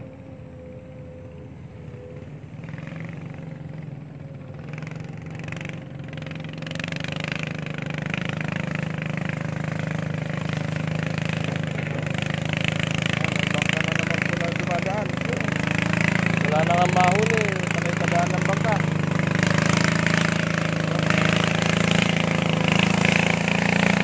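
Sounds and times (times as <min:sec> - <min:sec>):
motor engine running: 0:00.0 - 0:24.0.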